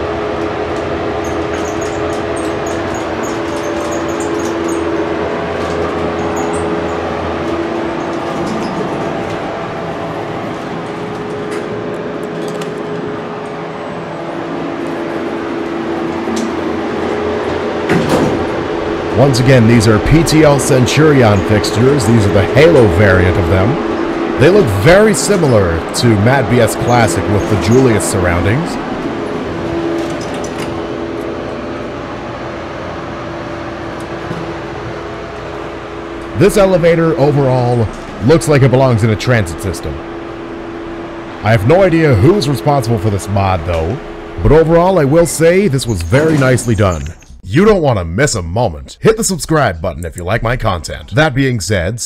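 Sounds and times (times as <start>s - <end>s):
elevator car in motion: 0.0s - 48.3s
loud ventilation fan: 0.0s - 52.0s.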